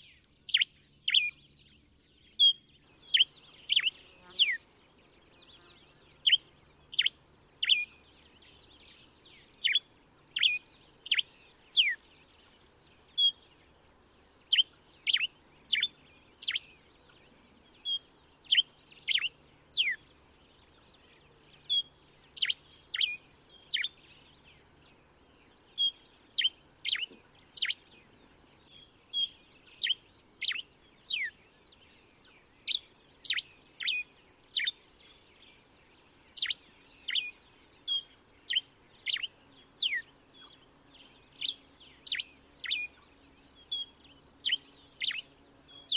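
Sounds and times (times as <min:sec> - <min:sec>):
finch singing whistled notes: 0:00.0 - 0:04.6, 0:05.2 - 0:20.1, 0:20.7 - 0:24.8, 0:25.7 - 0:45.9.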